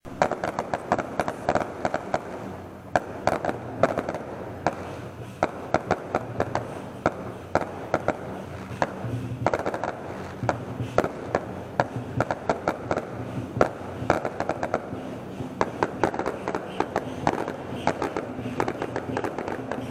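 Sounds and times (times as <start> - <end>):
fireworks banging: 0.0 - 19.9
steady background noise: 0.0 - 19.9.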